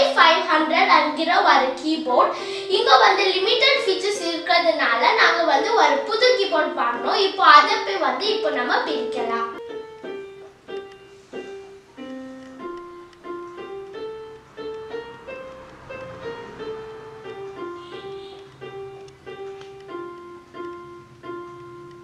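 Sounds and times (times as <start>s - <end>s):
electronic keyboard melody: 0.0s - 22.0s.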